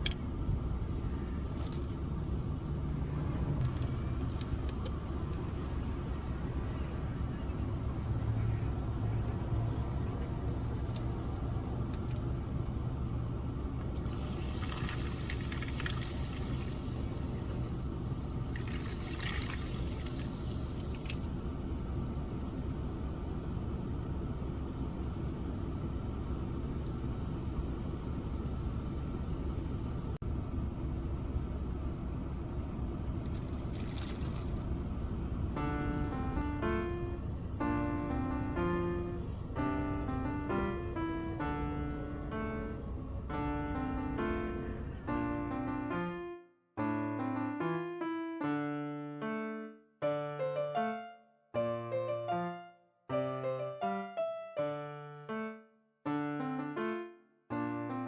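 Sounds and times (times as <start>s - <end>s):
low vehicle rumble: 0.0s - 47.0s.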